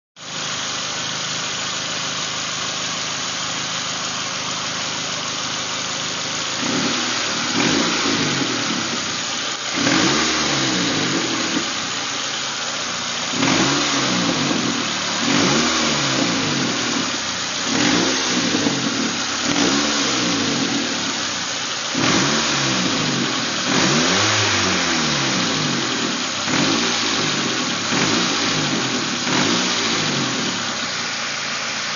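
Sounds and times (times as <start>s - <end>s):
car engine idling and revving: 0.2s - 31.9s.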